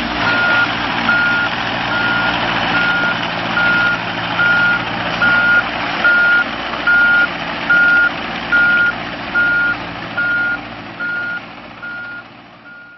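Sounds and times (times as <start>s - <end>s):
diesel engine running: 0.0s - 12.9s
excavator travel alarm beeping: 0.2s - 12.9s.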